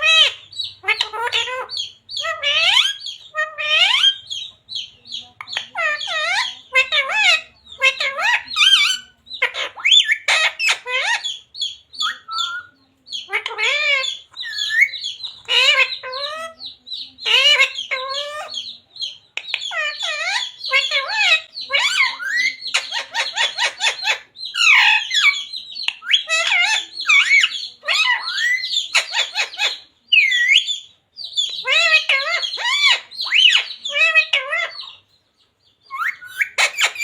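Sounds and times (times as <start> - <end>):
parrot chattering and squawking: 0.0 - 35.1, 35.8 - 37.0.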